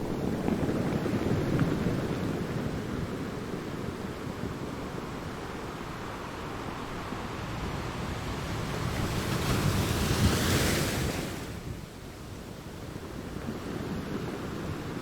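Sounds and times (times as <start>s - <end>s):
low surf wash: 0.0s - 15.0s.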